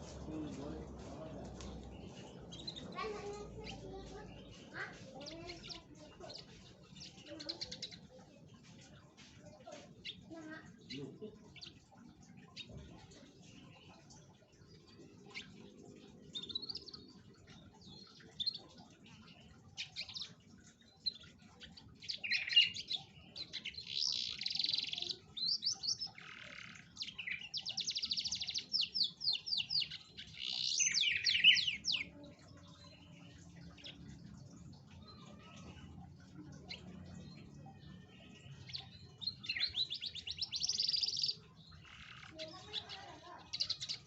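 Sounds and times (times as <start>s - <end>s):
canary singing chirps and trills: 0.0s - 44.0s.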